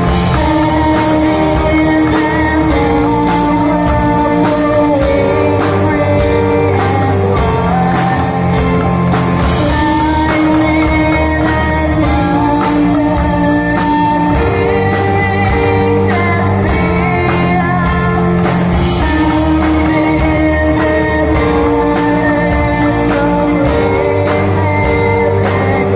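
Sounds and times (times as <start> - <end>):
rock band playing live: 0.0 - 25.9.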